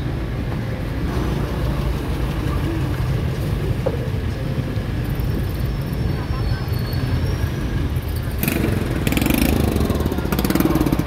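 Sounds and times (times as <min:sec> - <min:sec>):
faint voices: 0:00.2 - 0:11.0.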